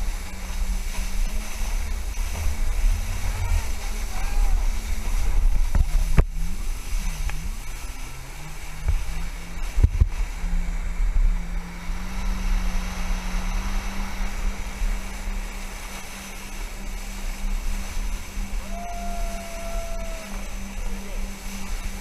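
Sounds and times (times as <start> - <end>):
jet ski engine running: 0.0 - 22.0
wind and water rumbling: 0.0 - 22.0.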